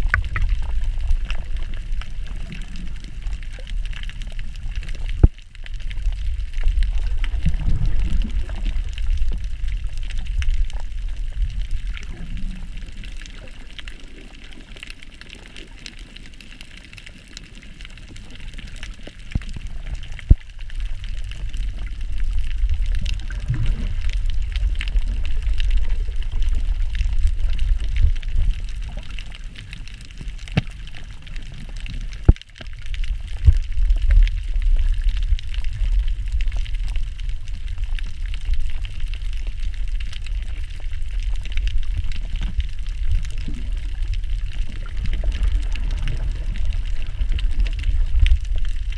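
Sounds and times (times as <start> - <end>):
water rumbling against camera housing: 0.0 - 13.2, 19.2 - 48.9
fine crackle: 0.0 - 48.9.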